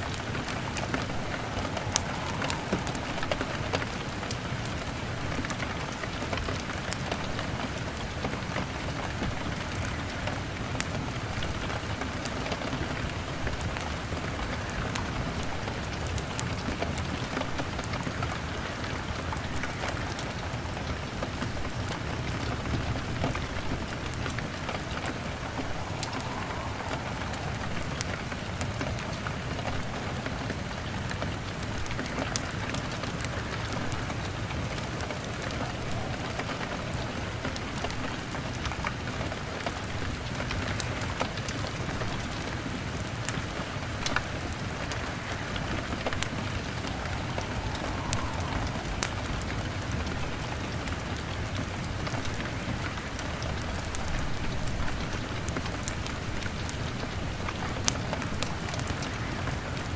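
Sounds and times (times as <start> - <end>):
log fire crackling: 0.0 - 59.9
rain beating on a window: 0.0 - 59.9.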